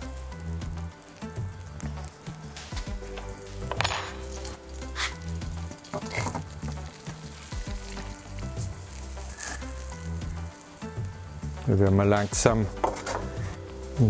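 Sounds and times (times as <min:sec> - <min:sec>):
onion sizzling in frying pan: 0:00.0 - 0:14.0.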